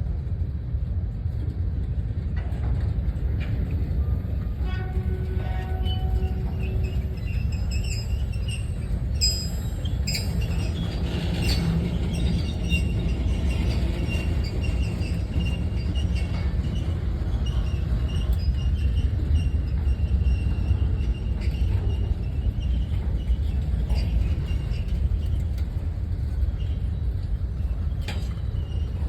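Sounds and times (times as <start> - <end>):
train rumbling by: 0.0 - 29.0
wheels squealing: 4.8 - 29.0.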